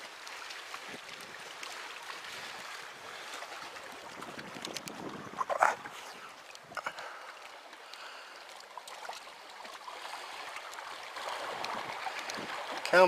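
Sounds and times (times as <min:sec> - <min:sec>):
water: 0:00.0 - 0:13.0
wind: 0:00.0 - 0:13.0.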